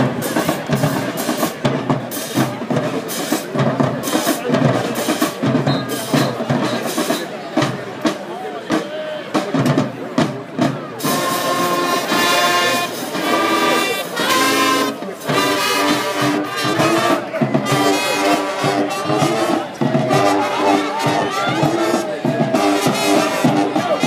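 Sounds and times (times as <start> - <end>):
marching band brass chords: 0.0 - 24.0.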